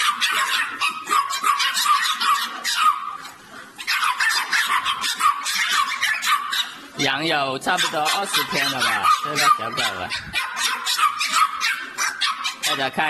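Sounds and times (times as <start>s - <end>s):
puppy yelping and whining: 0.0s - 7.1s, 7.7s - 13.0s.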